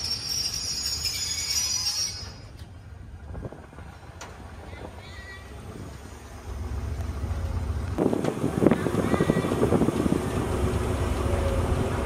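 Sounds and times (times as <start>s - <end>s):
diesel train engine rumble: 0.0s - 12.0s.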